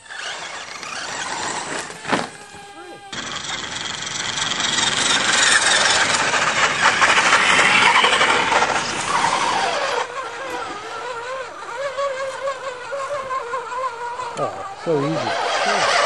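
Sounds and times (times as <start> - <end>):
rc truck motor whine: 0.0 - 16.0
tyres on dirt and leaves: 0.0 - 16.0.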